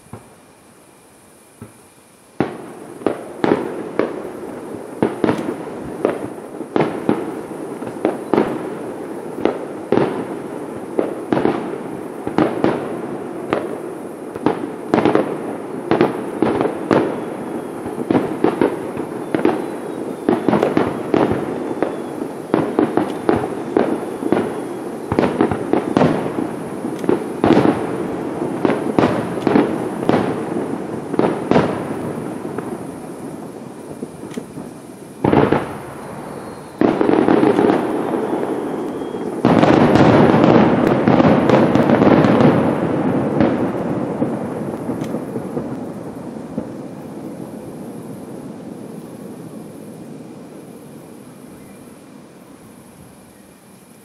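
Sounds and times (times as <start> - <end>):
fireworks bursts and crackle: 0.0 - 54.0
fireworks sharp bangs: 0.0 - 54.0.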